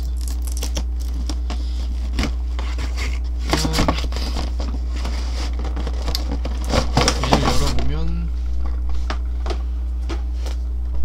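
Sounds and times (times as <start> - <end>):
card and tape crinkling: 0.0 - 9.6.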